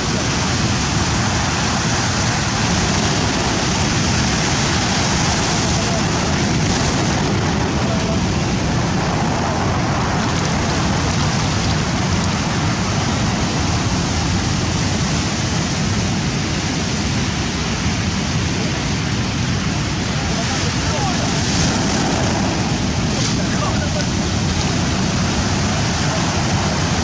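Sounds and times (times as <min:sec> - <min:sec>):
rough sea surf breaking: 0:00.0 - 0:27.0.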